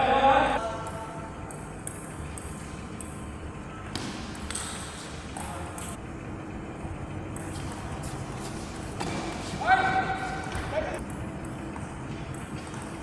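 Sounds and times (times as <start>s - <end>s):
ping pong ball tapping paddles: 0.7s - 3.3s, 3.9s - 6.0s, 7.3s - 13.0s.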